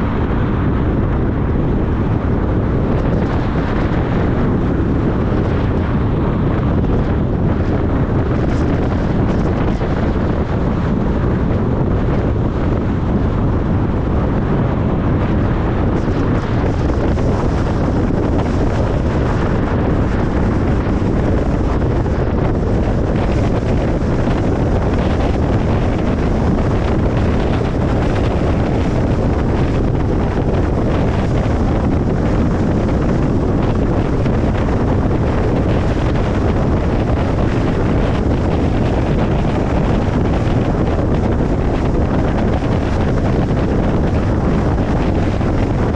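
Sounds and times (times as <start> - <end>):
car tyre and wind road noise: 0.0 - 45.9.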